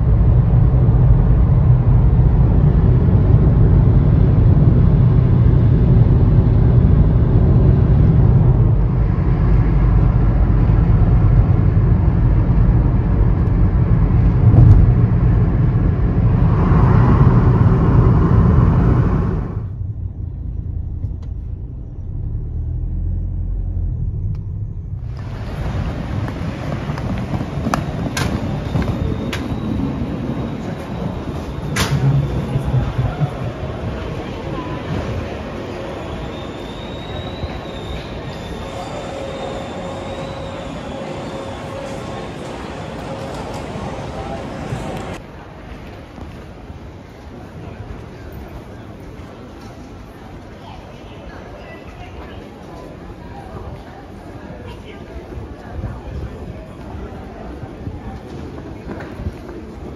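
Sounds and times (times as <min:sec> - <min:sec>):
vehicle rumbling in motion: 0:00.0 - 0:59.9.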